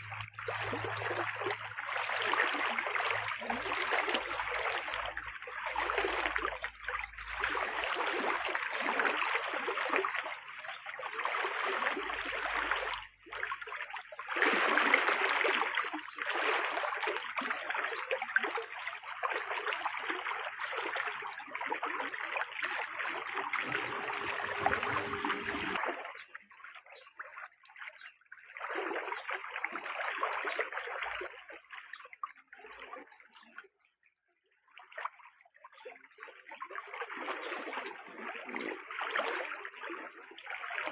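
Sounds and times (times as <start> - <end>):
water pouring and splashing: 0.0 - 33.6, 34.8 - 40.9.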